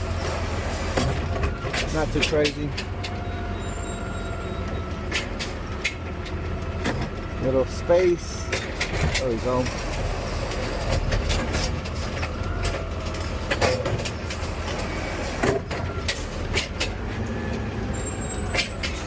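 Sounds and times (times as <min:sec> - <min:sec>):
clunks and rattles: 0:00.0 - 0:19.0
truck engine rumble: 0:00.0 - 0:19.0.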